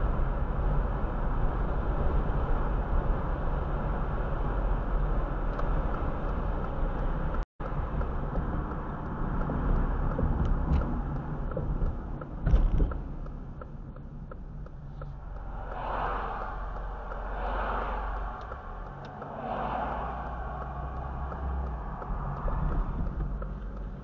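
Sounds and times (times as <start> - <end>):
car tyre and engine rumble: 0.0 - 24.0.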